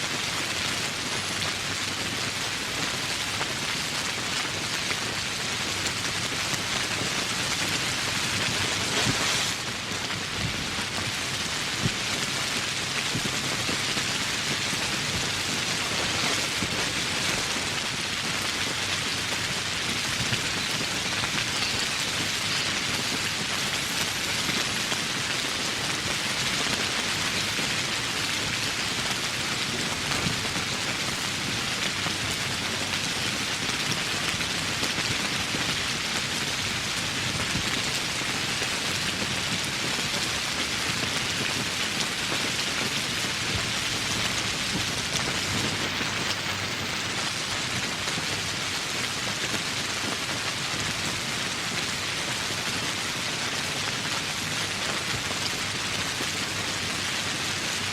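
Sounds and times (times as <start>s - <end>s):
heavy rain falling: 0.1s - 57.9s.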